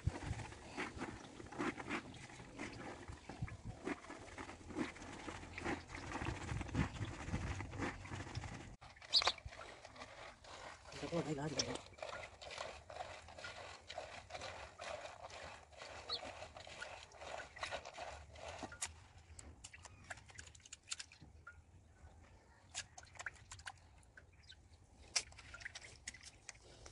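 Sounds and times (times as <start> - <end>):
wet sloshing: 0.0 - 21.3, 22.7 - 26.9.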